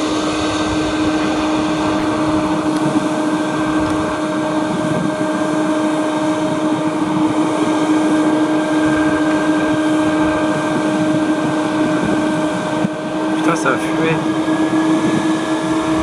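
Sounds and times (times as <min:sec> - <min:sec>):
jet engines idling with whine: 0:00.0 - 0:16.0.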